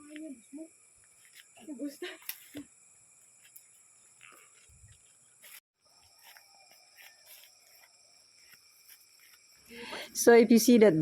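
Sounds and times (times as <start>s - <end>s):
high-pitched insect chirring: 0.0s - 11.0s.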